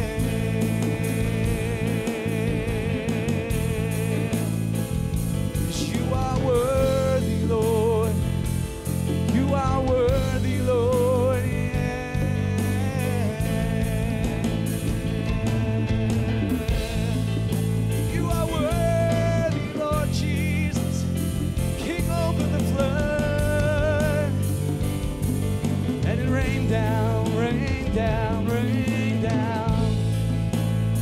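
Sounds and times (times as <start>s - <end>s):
man singing: 0.0s - 25.0s, 25.8s - 31.0s
bass: 0.0s - 31.0s
electronic drum kit: 0.0s - 31.0s.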